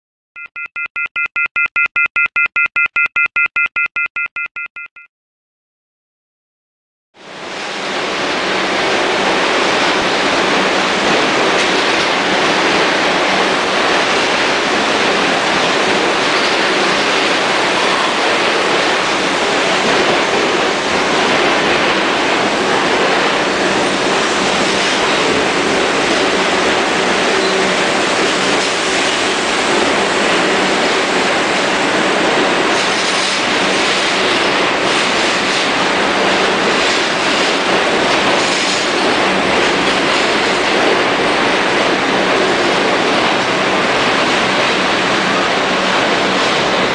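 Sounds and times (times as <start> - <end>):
subway train passing: 7.2 - 46.9.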